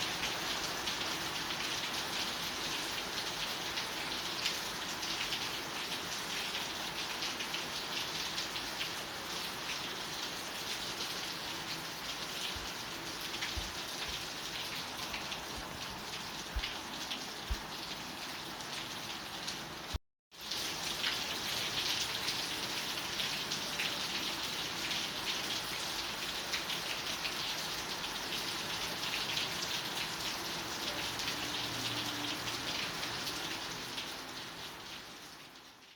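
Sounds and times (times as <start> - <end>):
rain pattering on a surface: 0.0 - 35.9.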